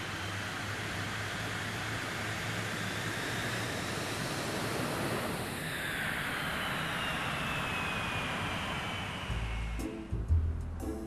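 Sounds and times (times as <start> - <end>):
jet airliner roar: 0.0 - 10.2
high jet engine whine: 0.0 - 11.0.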